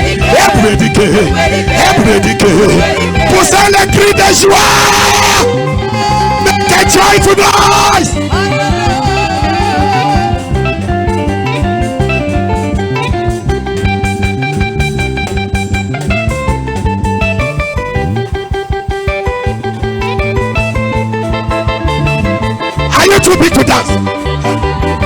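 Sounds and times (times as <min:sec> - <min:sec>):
bass guitar: 0:00.0 - 0:25.0
guitar melodic lines: 0:00.0 - 0:25.0
steady drum beat: 0:00.0 - 0:25.0.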